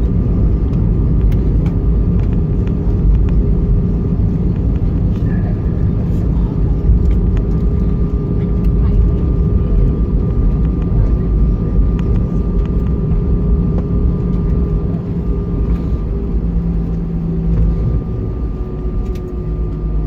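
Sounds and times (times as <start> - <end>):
aircraft rolling on ground rumble: 0.0 - 20.0
airliner engine drone: 0.0 - 20.0.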